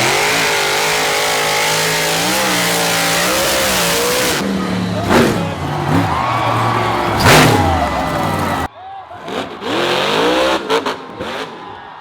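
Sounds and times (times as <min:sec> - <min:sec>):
monster truck engine revving: 0:00.0 - 0:11.8.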